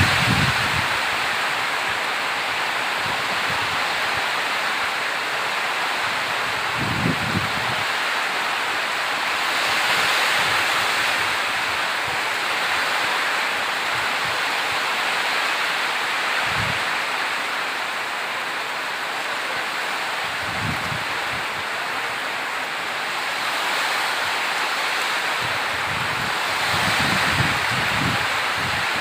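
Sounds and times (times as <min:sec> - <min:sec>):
heavy rainfall hissing: 0:00.0 - 0:29.0.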